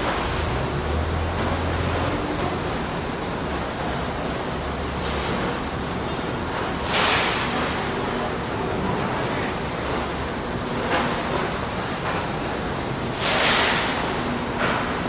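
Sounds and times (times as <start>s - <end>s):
factory machinery noise: 0.0s - 15.0s.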